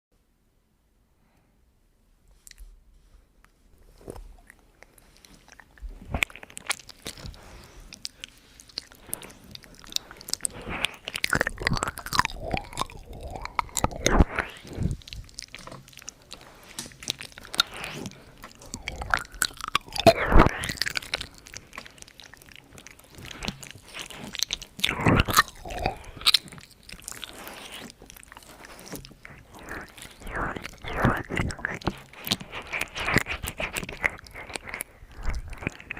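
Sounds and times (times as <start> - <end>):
lip and tongue clicks: 2.4 - 2.7, 4.4 - 35.9.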